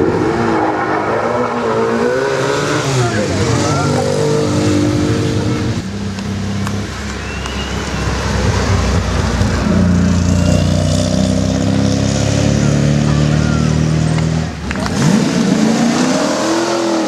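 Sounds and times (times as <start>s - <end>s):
car engine pulling away: 0.0s - 17.0s.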